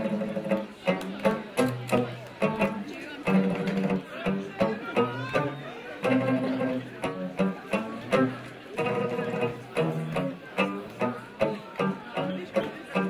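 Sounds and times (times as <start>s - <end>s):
banjo: 0.0s - 13.0s
double bass plucking: 0.0s - 13.0s
guitar: 0.0s - 13.0s.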